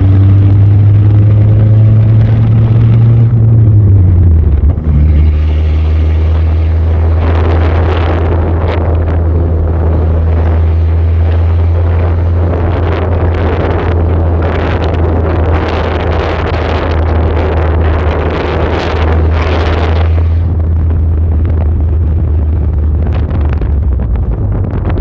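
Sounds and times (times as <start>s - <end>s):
unmuffled engine drone: 0.0s - 25.0s
wind buffeting microphone: 0.0s - 25.0s.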